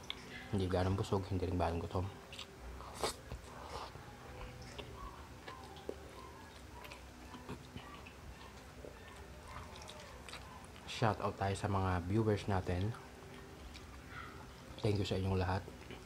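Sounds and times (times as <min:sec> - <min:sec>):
chewing rice: 0:00.0 - 0:16.0.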